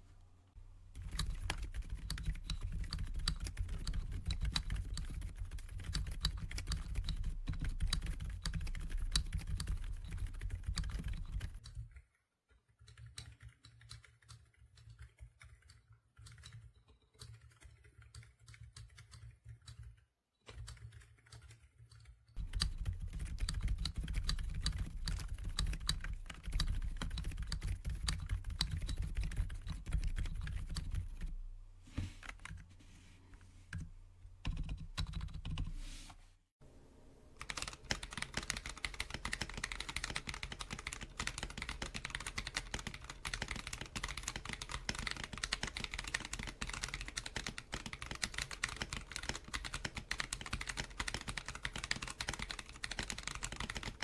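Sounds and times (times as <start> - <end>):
fast typing on mechanical keyboard: 1.0 - 12.1, 12.8 - 31.3, 34.4 - 35.6, 37.4 - 54.0.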